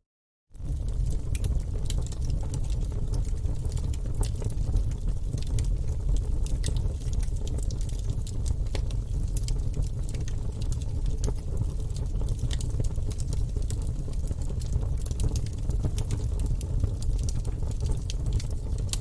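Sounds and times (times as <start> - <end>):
fire flames rumbling: 0.5 - 19.0
logs crackling and popping: 0.6 - 19.0.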